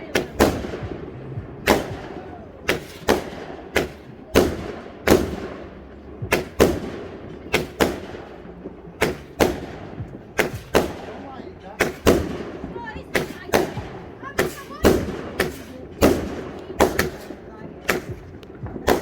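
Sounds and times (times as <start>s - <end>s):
fireworks exploding with sharp bangs: 0.0s - 19.0s.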